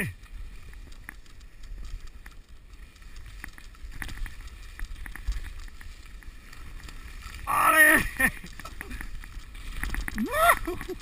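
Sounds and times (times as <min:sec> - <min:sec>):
skis sliding over wet snow: 0:00.0 - 0:11.0.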